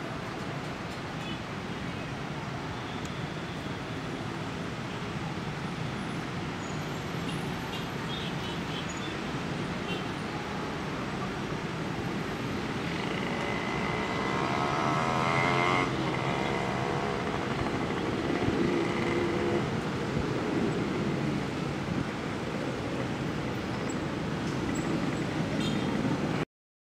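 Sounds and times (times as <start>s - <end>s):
street traffic: 0.0s - 26.5s.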